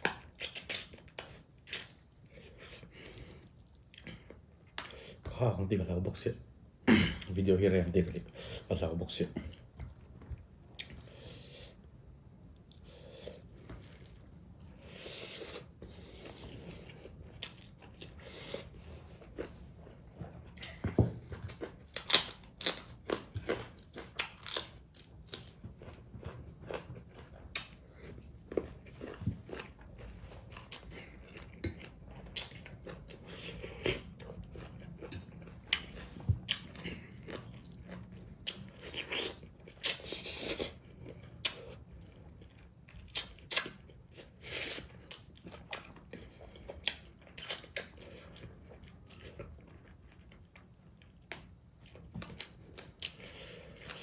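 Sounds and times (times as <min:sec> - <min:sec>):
person chewing and biting food: 0:00.0 - 0:05.1, 0:12.6 - 0:54.0.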